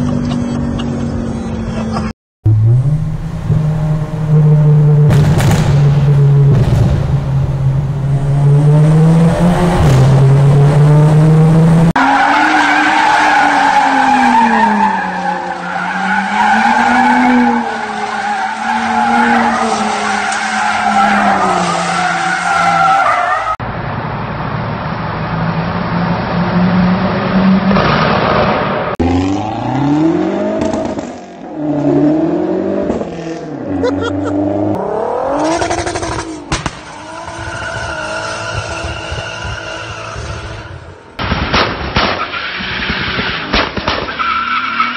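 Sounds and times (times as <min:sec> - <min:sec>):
car engines revving: 0:00.0 - 0:41.5.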